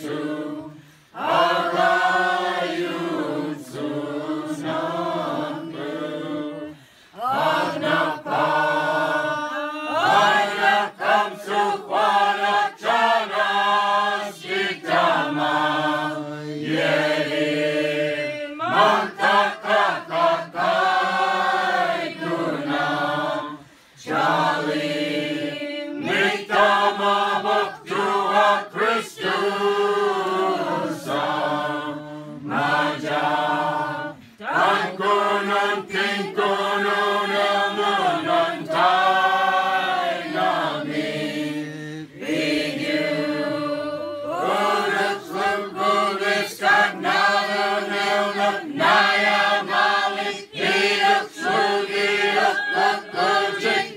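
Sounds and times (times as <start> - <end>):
group singing a carol: 0.0 - 53.9.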